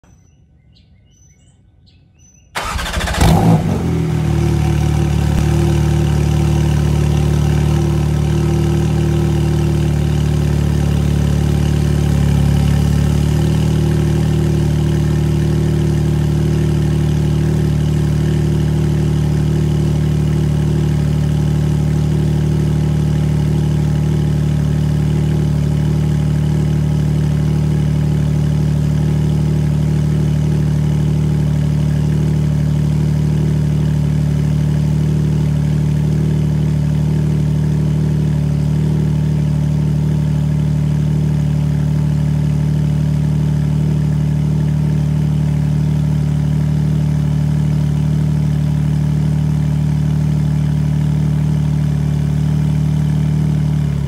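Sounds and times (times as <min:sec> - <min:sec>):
car engine cold start and idle: 0:02.5 - 0:54.0.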